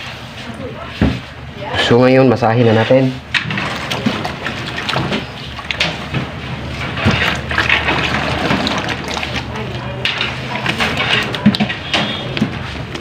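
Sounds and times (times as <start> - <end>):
hands kneading wet dough: 0.0 - 13.0.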